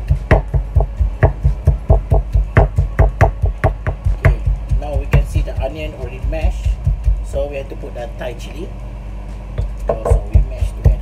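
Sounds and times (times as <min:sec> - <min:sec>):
pestle pounding in mortar: 0:00.0 - 0:07.5, 0:09.6 - 0:11.0.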